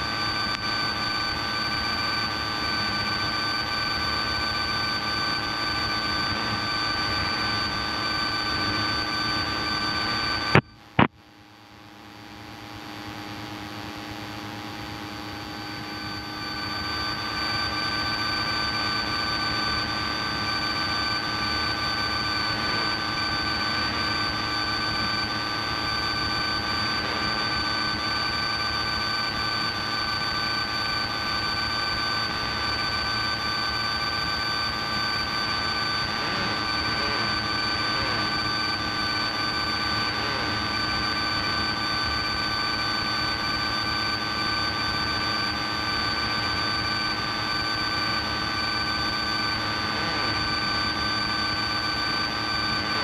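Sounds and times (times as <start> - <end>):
airplane engine droning in cabin: 0.0 - 53.0.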